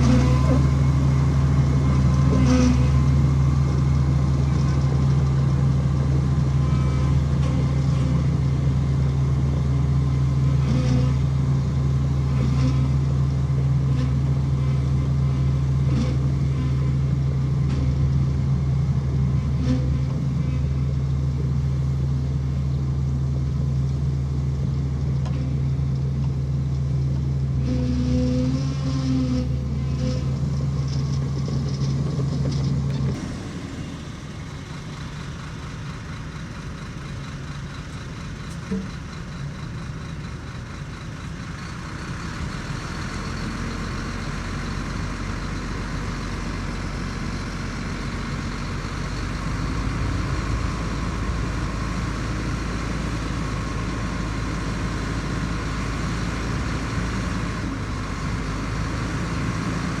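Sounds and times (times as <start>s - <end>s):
diesel engine droning: 0.0s - 60.0s.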